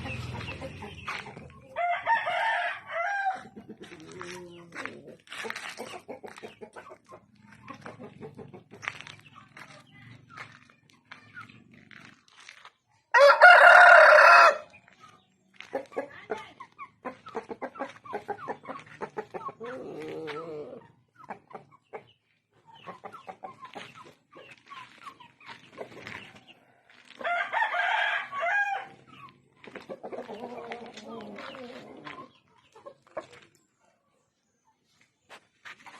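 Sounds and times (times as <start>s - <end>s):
bird clucks and clicks: 0.0s - 1.7s, 2.4s - 12.8s, 14.6s - 33.8s.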